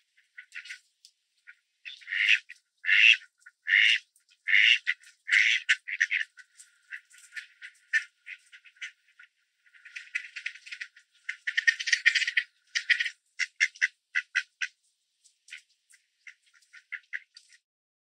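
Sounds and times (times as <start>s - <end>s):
ducks quacking: 0.0s - 14.8s, 15.4s - 17.6s.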